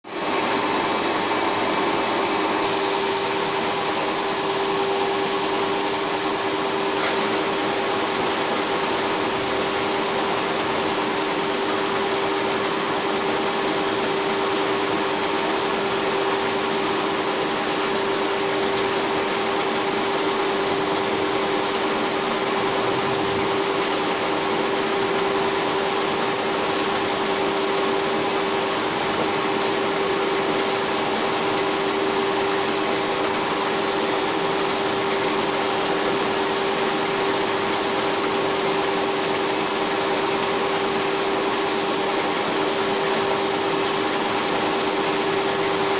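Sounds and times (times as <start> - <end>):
lathe running with whine: 0.1 - 45.9.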